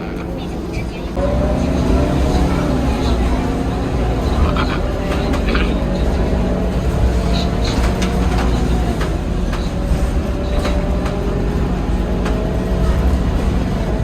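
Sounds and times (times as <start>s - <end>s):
bus engine rumble: 0.0s - 14.0s.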